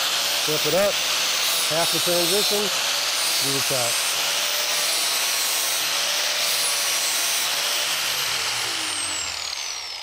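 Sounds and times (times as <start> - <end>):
angle grinder grinding steel: 0.0 - 10.0
grinder winding down whine: 0.0 - 10.0.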